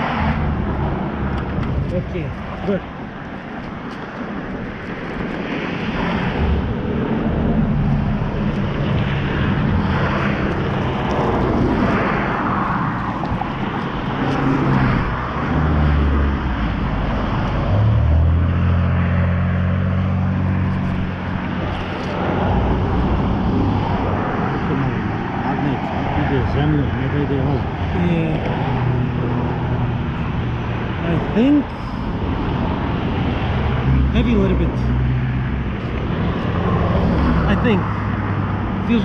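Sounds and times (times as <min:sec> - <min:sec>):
tyre noise of passing traffic: 0:00.0 - 0:39.0
vehicle engine low drone: 0:00.0 - 0:39.0.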